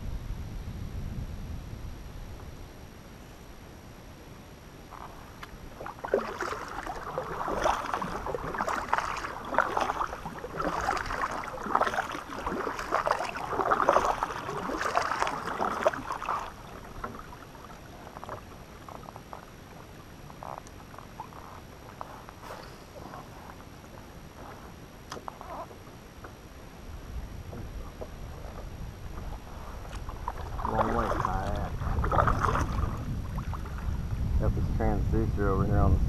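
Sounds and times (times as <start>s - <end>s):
faint water noise: 0.0s - 36.0s
kayak paddle splashing: 4.9s - 34.1s.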